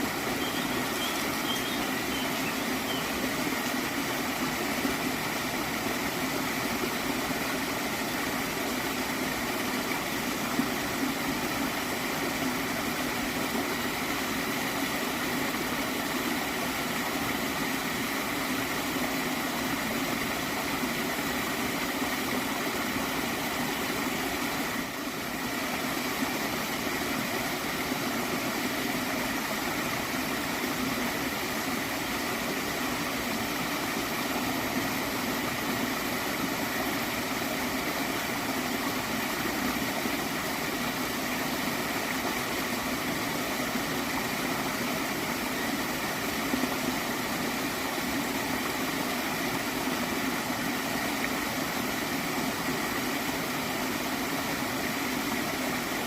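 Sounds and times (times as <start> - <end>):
stream gurgling: 0.0 - 56.0.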